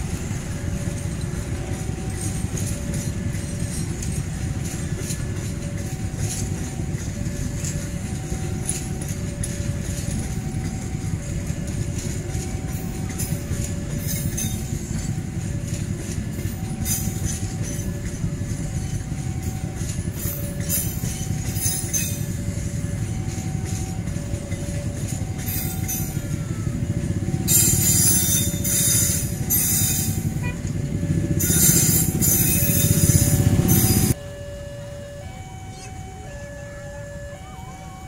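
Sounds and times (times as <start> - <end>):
wheel-on-rail clatter and hiss: 0.0 - 34.2
crossing alarm two-tone chime: 0.0 - 38.0
train coaches rumbling past: 0.0 - 38.0.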